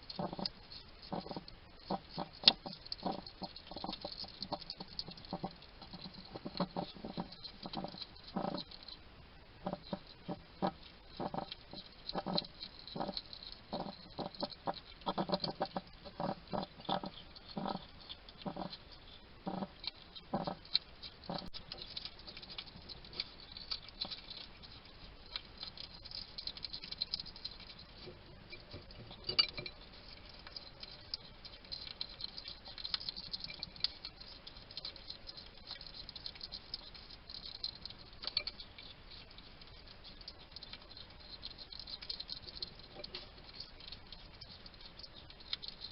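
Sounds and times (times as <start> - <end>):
hedgehog crunching and chewing: 0.0 - 45.9.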